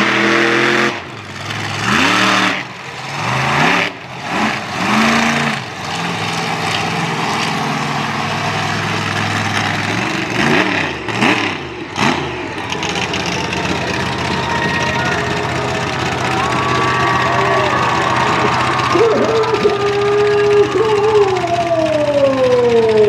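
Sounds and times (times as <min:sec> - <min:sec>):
truck engine revving and idling: 0:00.0 - 0:23.0.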